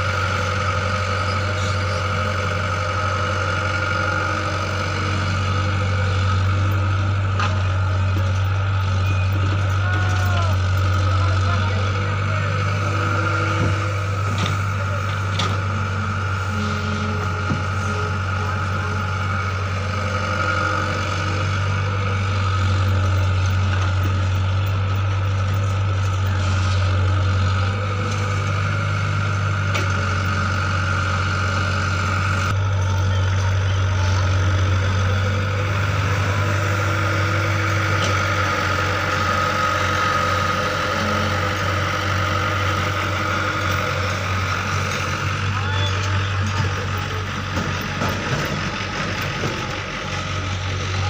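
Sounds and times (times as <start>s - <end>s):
heavy machine engine drone: 0.0s - 51.0s.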